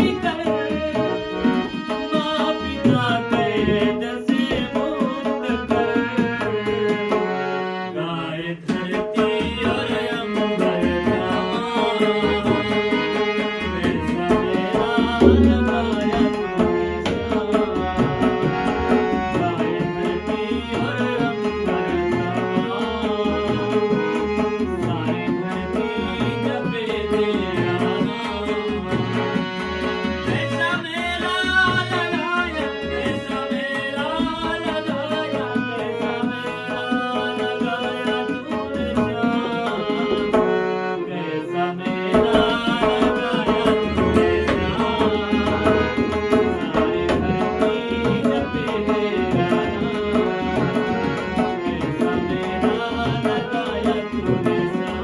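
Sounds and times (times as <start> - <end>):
harmonium melody: 0.0 - 55.0
tabla rhythm: 0.0 - 55.0.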